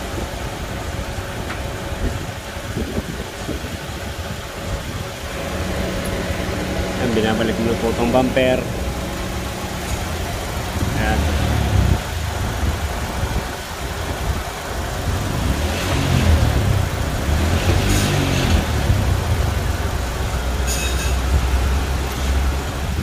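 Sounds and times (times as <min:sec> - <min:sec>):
air conditioning running: 0:00.0 - 0:23.0
car engine idling: 0:00.0 - 0:23.0.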